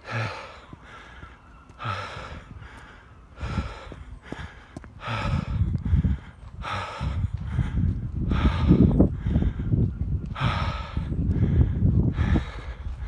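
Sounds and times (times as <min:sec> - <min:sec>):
man gasping breath while running: 0:00.0 - 0:13.0.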